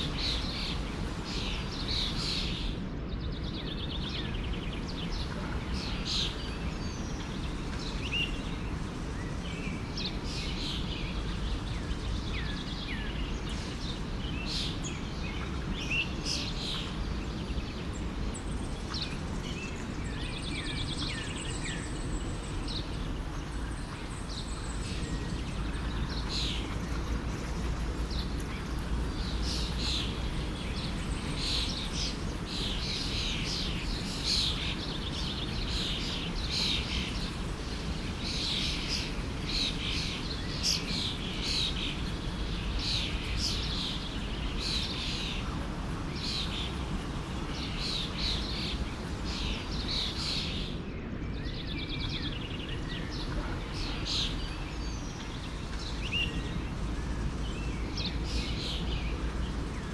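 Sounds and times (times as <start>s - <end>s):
flowing stream: 0.0s - 2.6s, 4.0s - 50.8s, 52.0s - 59.9s
forest birds chirping: 0.0s - 59.9s.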